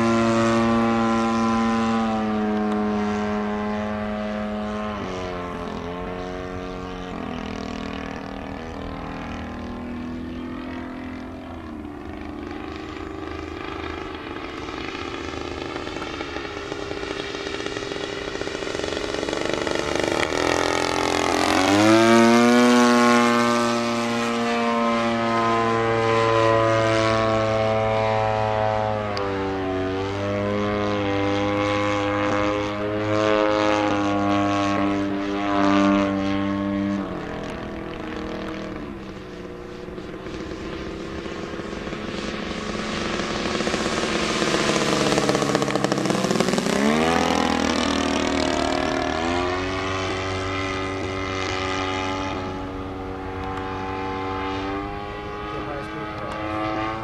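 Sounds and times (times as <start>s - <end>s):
model plane engine buzzing: 0.0s - 57.0s.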